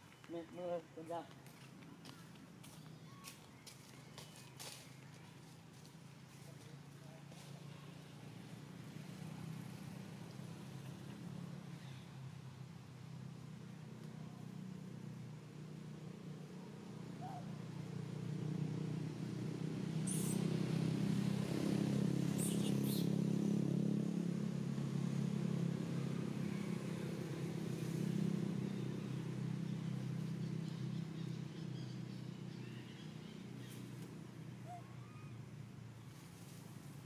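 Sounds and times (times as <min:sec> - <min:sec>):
vehicle engine passing: 0:04.4 - 0:37.0.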